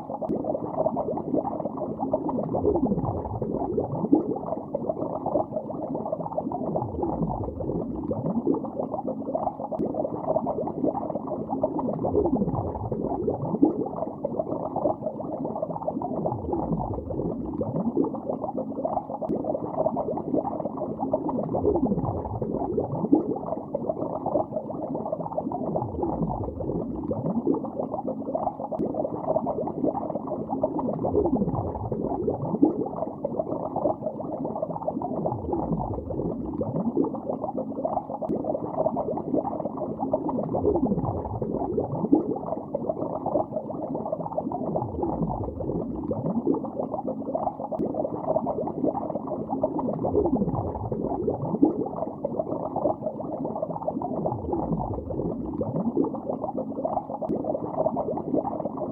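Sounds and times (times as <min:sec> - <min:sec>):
underwater bubbling: 0:00.0 - 0:58.9.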